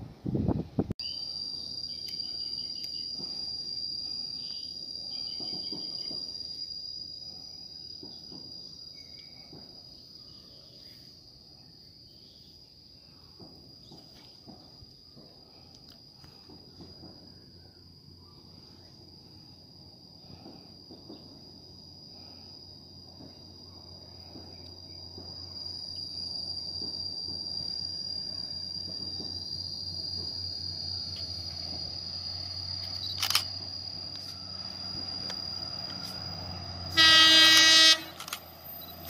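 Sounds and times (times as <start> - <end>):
insects trilling: 1.0 - 39.0.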